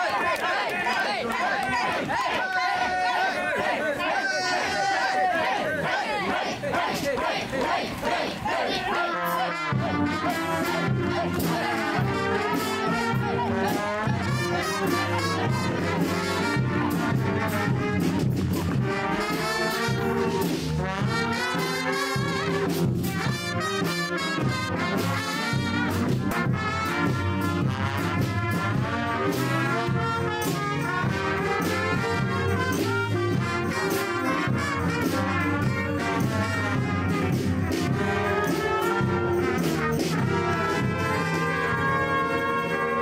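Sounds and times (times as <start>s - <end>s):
brass band music: 0.0s - 43.0s.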